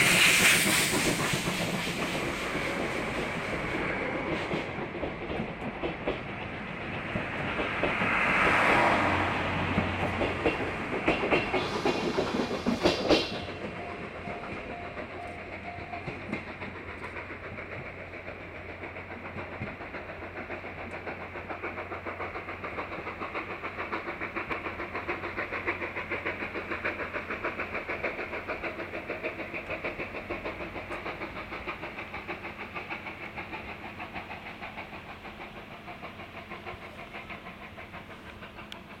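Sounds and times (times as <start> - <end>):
steam locomotive chuffing: 0.0 - 39.0
train coach clattering over rail joints: 0.0 - 39.0.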